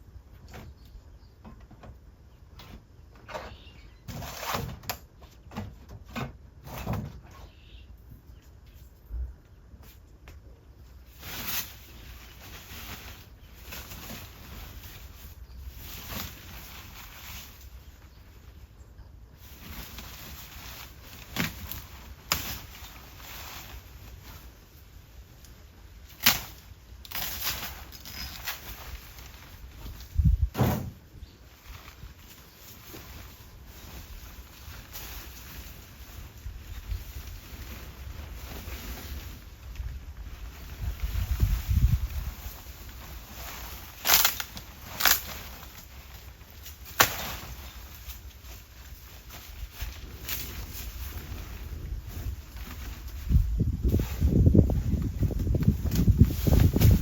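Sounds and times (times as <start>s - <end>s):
faint rustling: 10.8s - 57.0s.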